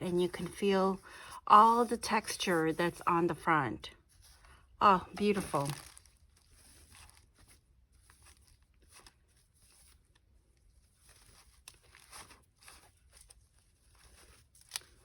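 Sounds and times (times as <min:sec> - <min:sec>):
paper journal rustling: 0:00.0 - 0:03.4, 0:04.0 - 0:15.0.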